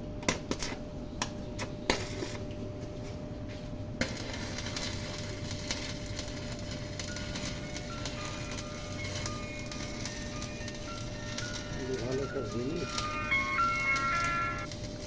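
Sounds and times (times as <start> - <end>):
welding arc crackling: 0.3 - 2.6, 3.4 - 15.0.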